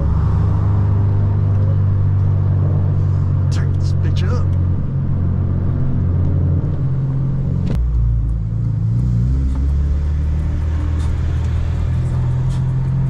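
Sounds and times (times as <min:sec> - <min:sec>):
car engine running loud: 0:00.0 - 0:13.0.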